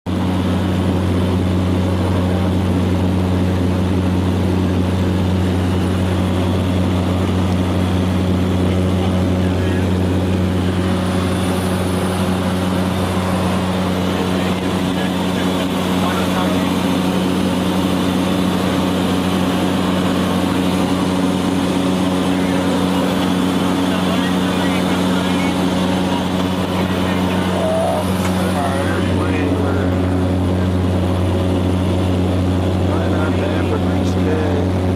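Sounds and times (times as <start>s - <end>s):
engine running with low drone: 0.1s - 34.9s.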